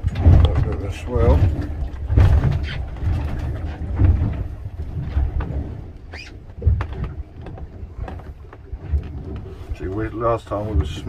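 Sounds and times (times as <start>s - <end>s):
sharp knocks from boat: 0.0s - 11.0s
wind buffeting microphone: 0.0s - 11.0s.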